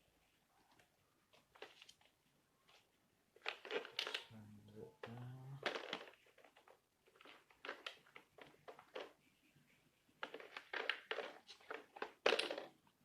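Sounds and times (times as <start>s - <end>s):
board game pieces rustling and clicking: 0.7s - 4.3s, 5.0s - 9.3s, 10.2s - 12.9s.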